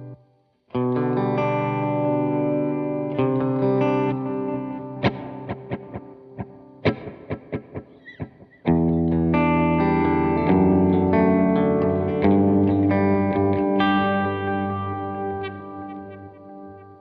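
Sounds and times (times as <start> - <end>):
electric guitar chords and notes: 0.0 - 17.0.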